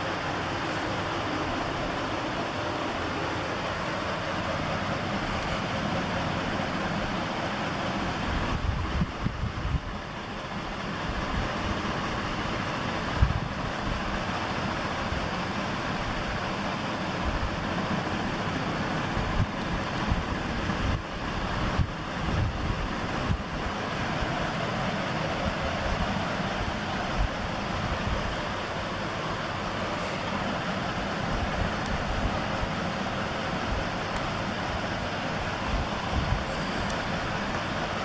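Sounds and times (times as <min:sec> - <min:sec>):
low rumbling gusts: 0:00.0 - 0:16.5, 0:18.8 - 0:38.0
wind and road noise: 0:00.0 - 0:38.0.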